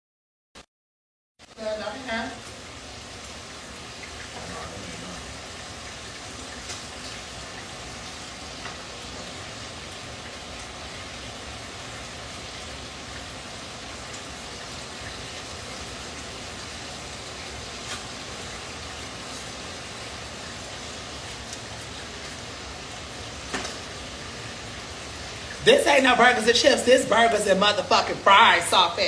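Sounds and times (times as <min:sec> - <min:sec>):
food sizzling in hot oil: 0:01.4 - 0:29.0.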